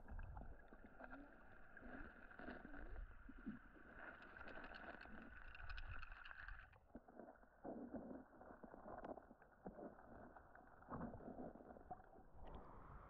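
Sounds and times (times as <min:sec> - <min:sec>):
faint river water: 0:00.0 - 0:13.0.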